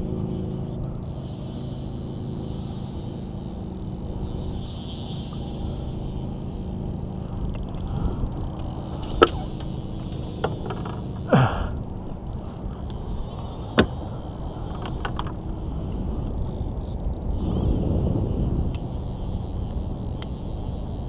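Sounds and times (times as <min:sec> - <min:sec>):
wind noise on microphone: 0:00.0 - 0:11.2, 0:11.8 - 0:21.0.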